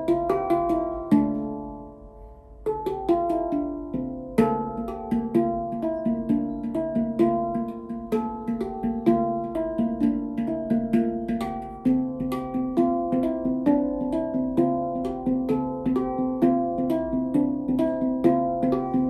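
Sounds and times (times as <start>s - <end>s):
handpan melody: 0.0s - 19.0s.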